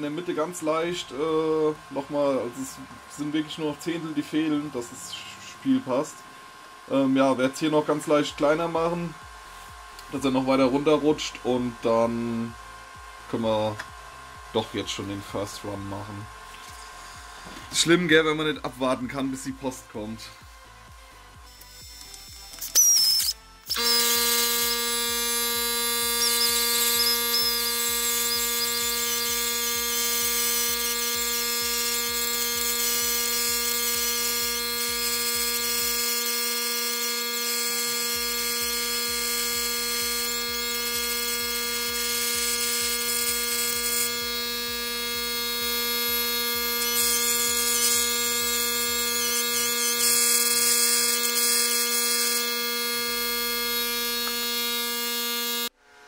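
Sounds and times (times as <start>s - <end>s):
rotary tool grinding whine: 0.0s - 56.0s.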